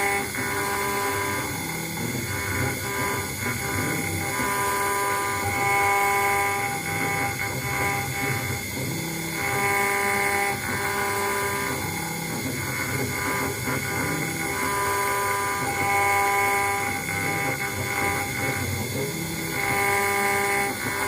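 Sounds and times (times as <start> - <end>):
router spindle running: 0.0 - 21.0
stepper motors whining: 0.0 - 21.0.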